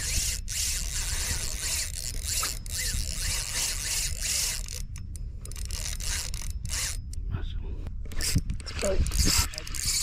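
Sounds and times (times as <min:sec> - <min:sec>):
wind rumble on microphone: 0:00.0 - 0:05.5, 0:07.1 - 0:10.0
fishing reel ratcheting: 0:00.0 - 0:07.2, 0:08.1 - 0:10.0.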